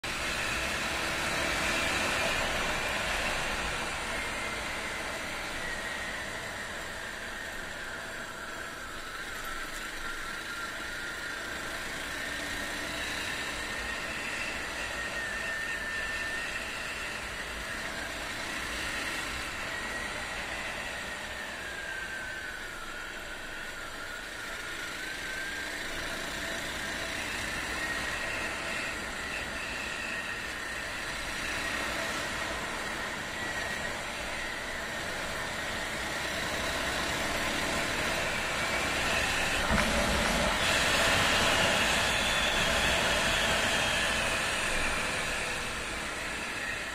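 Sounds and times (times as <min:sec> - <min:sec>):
wind and road noise: 0:00.0 - 0:46.9.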